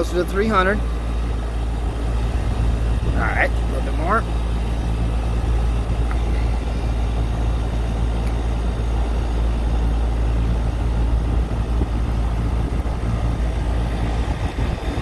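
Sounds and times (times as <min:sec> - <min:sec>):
air conditioning unit droning: 0:00.0 - 0:15.0.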